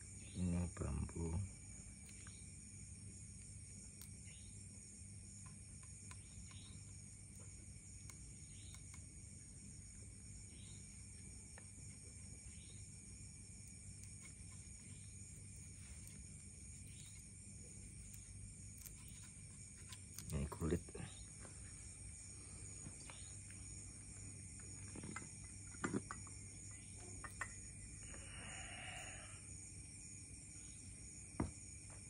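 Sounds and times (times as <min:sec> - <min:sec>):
low steady hum: 0:00.0 - 0:31.9
crickets trilling: 0:00.0 - 0:32.0.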